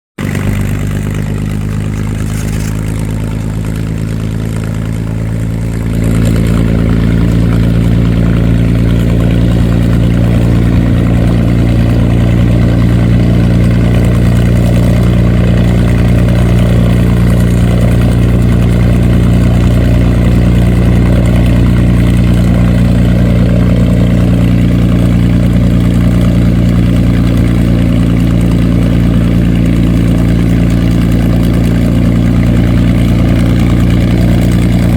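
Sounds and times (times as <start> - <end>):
aircraft radial engine running: 0.2 - 34.9.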